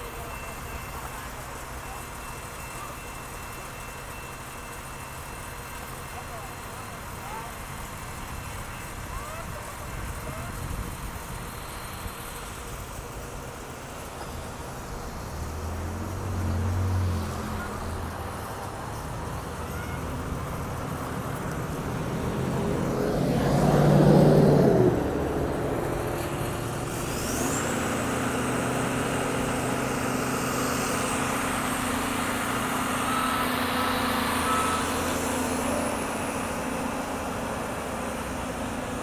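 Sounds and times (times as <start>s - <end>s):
diesel engines running: 0.0s - 39.0s.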